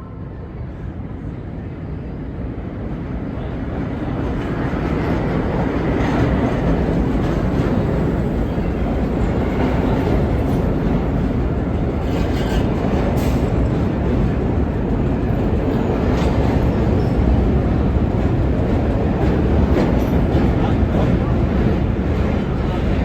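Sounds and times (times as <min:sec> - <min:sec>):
subway train rumbling on track: 0:00.0 - 0:23.0.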